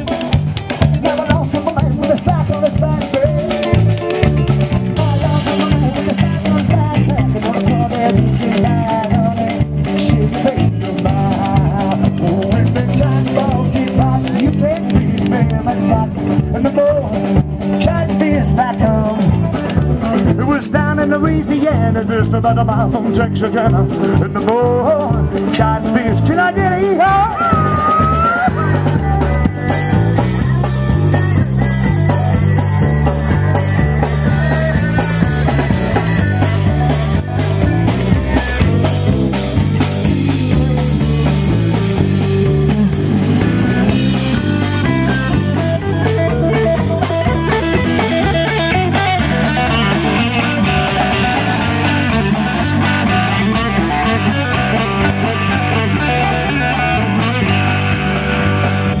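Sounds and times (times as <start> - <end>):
drum kit: 0.0 - 59.0
electric guitar: 0.0 - 59.0
repeating bass line: 0.0 - 59.0.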